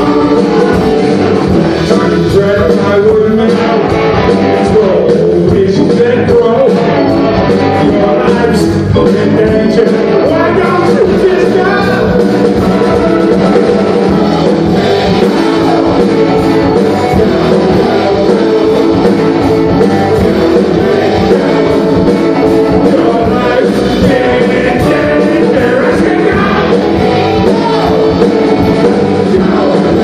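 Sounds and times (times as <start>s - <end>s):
person singing: 0.0s - 30.0s
rock band playing: 0.0s - 30.0s.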